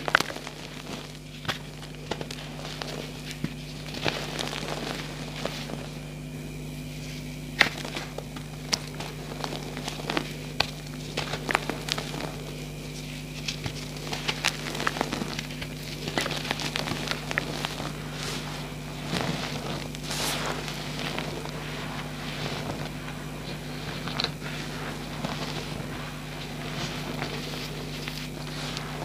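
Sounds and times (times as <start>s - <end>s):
hands crushing chalk blocks: 0.0s - 5.5s, 7.5s - 29.0s
powdery chalk sifting: 0.0s - 29.0s
steady low hum: 0.0s - 29.0s.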